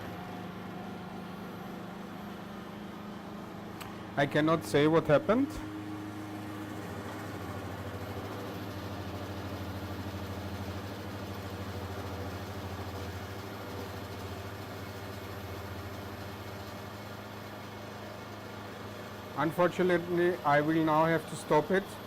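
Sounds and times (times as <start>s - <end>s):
milling machine humming: 0.0s - 22.0s.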